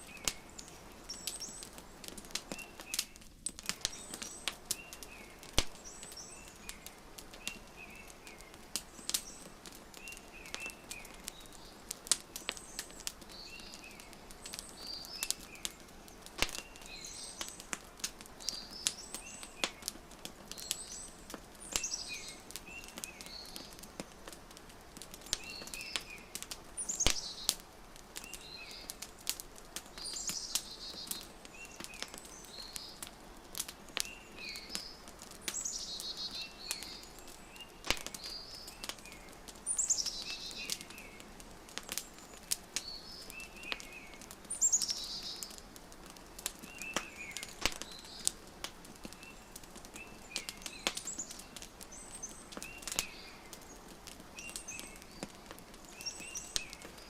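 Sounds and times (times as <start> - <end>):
small birds chirping: 0.0 - 57.0
wood fire crackling: 0.0 - 57.0.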